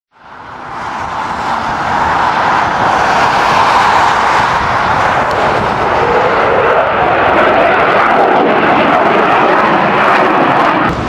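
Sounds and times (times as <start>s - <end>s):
fighter jet engines roaring: 0.1s - 11.0s.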